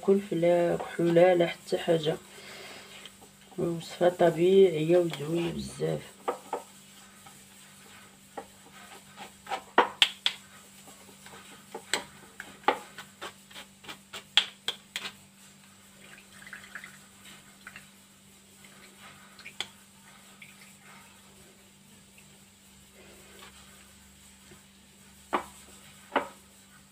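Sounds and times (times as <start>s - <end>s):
faint electrical hum: 0.0s - 26.9s.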